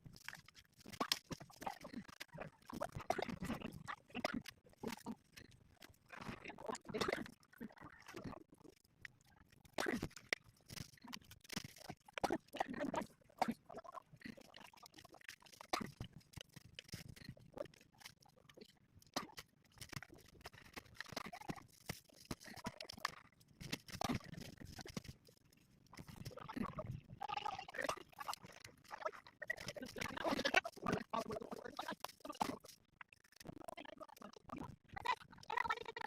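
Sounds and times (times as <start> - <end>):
pigs crunching and chewing: 0.0 - 36.0.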